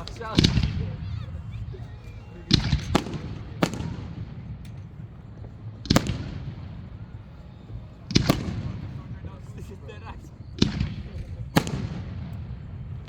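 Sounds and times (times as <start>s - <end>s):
fireworks bursting with echo: 0.0s - 9.5s, 10.4s - 13.0s.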